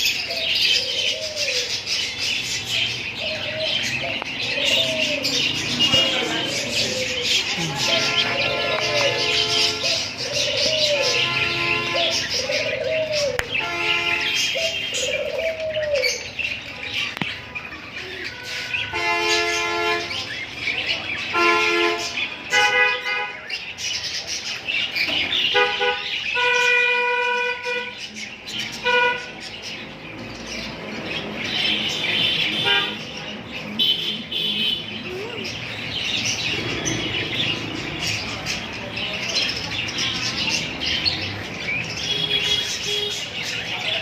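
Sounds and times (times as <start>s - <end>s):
bird chirping: 0.0s - 22.6s, 23.4s - 44.0s
lovebirds calling: 0.0s - 44.0s.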